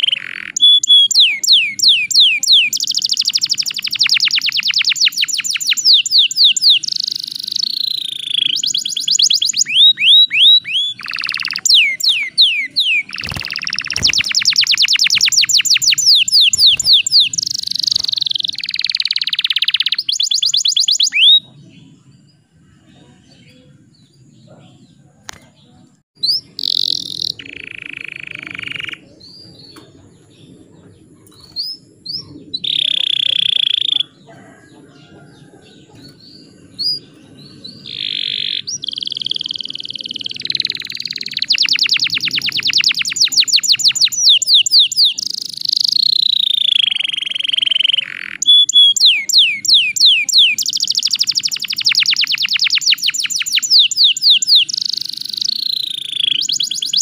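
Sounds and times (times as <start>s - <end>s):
canary singing: 0.0s - 22.7s, 23.4s - 57.0s.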